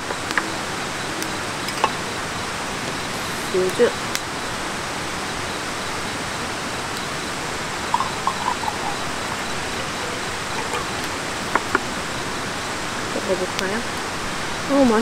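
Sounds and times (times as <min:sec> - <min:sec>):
gas burner hissing: 0:00.0 - 0:15.0.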